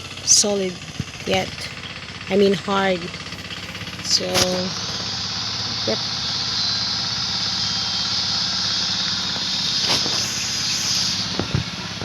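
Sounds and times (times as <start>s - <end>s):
small motor humming: 0.9s - 12.0s
high-pitched hiss: 1.3s - 11.5s.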